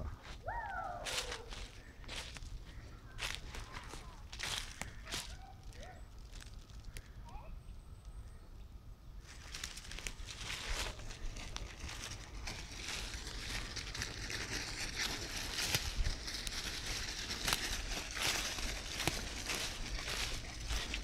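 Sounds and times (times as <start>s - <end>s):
leaves and twigs crunching underfoot: 0.0s - 7.4s, 9.2s - 21.0s.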